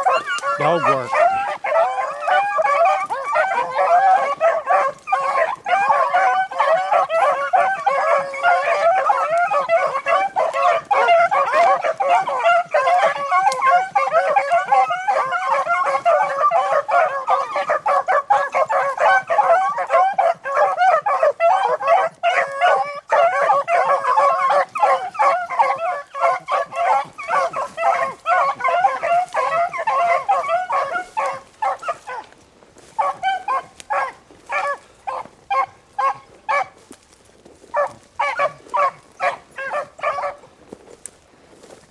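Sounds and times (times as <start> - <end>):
pack of hounds baying: 0.0 - 41.9.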